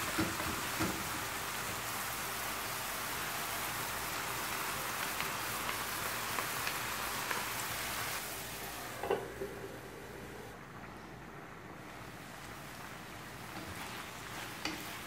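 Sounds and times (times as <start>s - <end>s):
meat and onions sizzling in pan: 0.0s - 9.0s, 11.8s - 15.0s.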